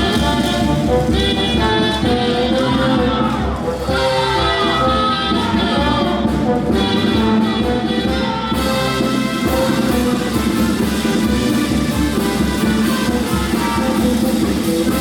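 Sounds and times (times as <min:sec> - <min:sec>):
brass band playing: 0:00.0 - 0:15.0
drums: 0:00.0 - 0:15.0.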